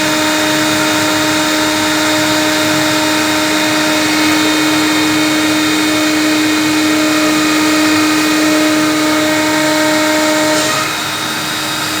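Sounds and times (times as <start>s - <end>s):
cnc router spindle whine: 0.0s - 12.0s.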